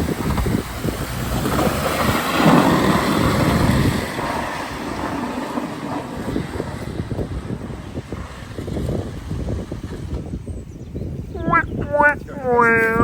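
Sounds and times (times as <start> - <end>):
car driving over rough ground: 0.0 - 10.7
wind noise on microphone: 0.0 - 13.0.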